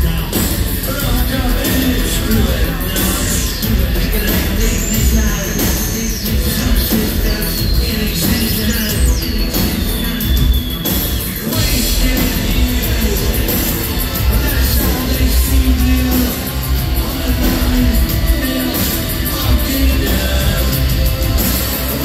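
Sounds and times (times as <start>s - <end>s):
industrial band playing live: 0.0s - 22.0s
singer's vocals: 0.0s - 22.0s.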